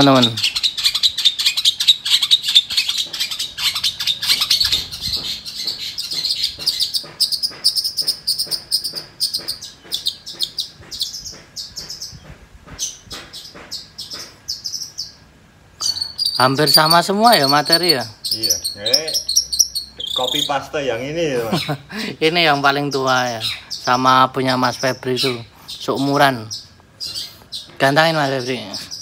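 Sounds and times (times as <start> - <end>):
bird chattering song: 0.0 - 29.0.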